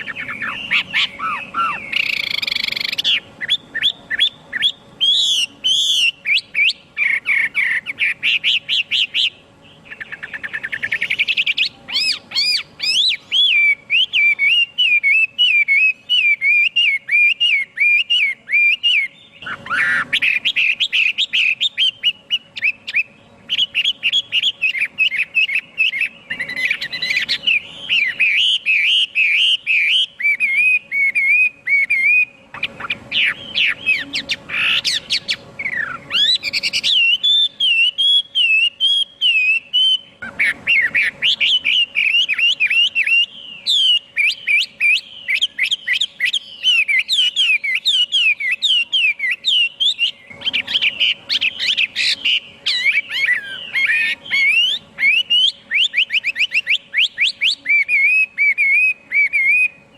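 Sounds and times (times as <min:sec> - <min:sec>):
bird singing whistled trills: 0:00.0 - 0:59.9.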